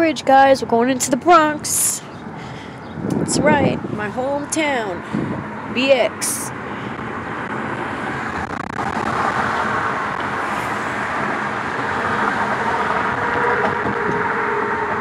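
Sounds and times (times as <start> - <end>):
road and tyre noise inside car: 2.1 - 15.0.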